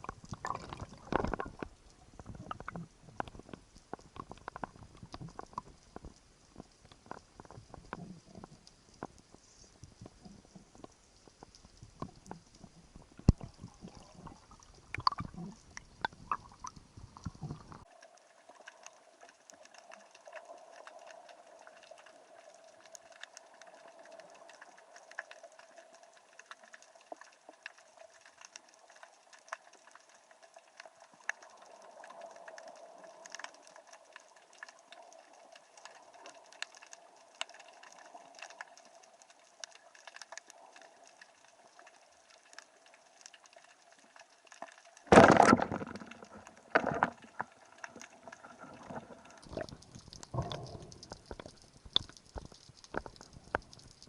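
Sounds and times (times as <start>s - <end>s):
faint steady hiss: 0.0s - 54.0s
small crackling clicks: 0.0s - 54.0s.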